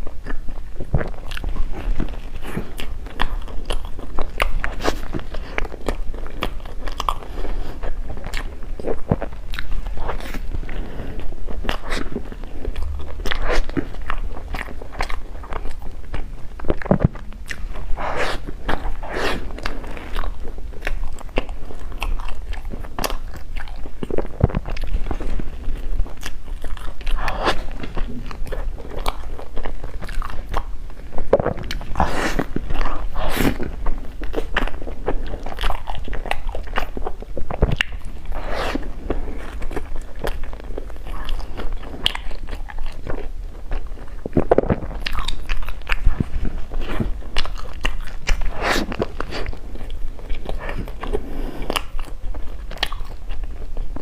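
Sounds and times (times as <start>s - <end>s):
chewing crunchy food: 0.0s - 54.0s.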